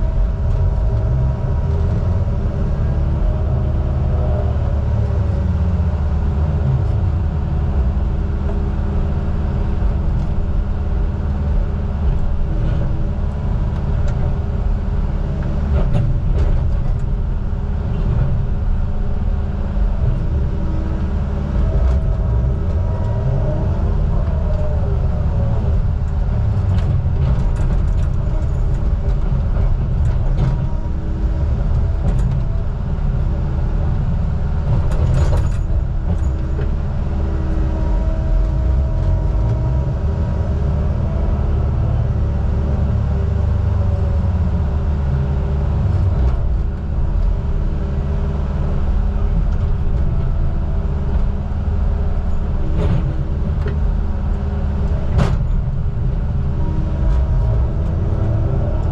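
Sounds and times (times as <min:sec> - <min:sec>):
heavy diesel engine rumbling: 0:00.0 - 0:58.9.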